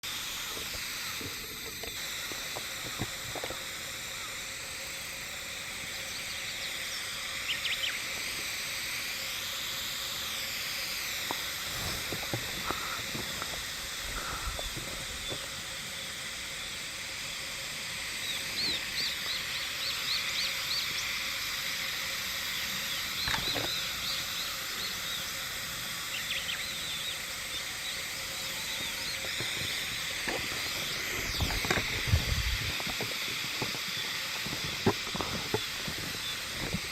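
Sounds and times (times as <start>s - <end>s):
cicadas singing: 0.0s - 36.9s.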